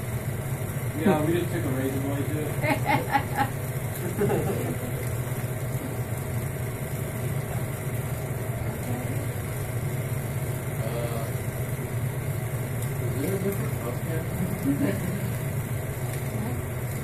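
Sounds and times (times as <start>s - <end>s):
film projector whirring: 0.0s - 17.0s.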